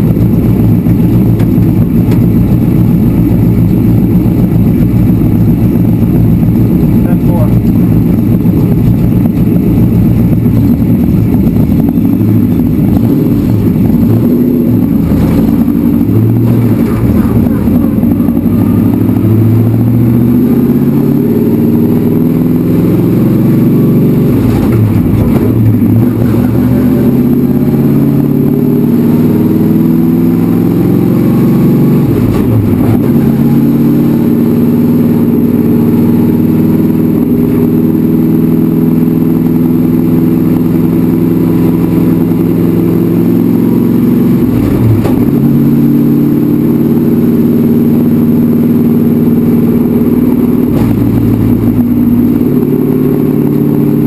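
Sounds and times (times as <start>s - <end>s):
racecar engine accelerating: 0.0s - 54.0s.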